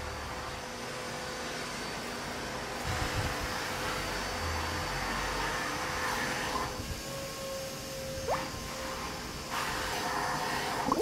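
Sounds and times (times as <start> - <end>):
mechanical hum and whir: 0.0 - 11.0.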